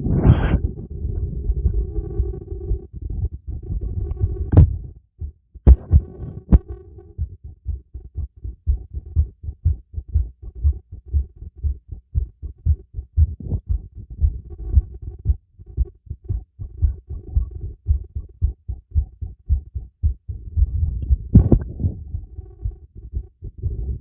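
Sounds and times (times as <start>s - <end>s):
heartbeat through stethoscope: 0.0s - 24.0s.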